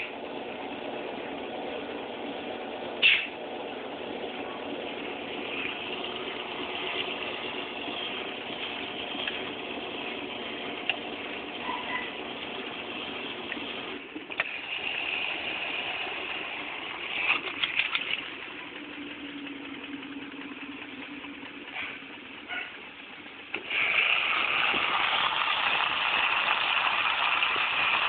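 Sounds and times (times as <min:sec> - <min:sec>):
drain pump humming: 0:00.0 - 0:28.0.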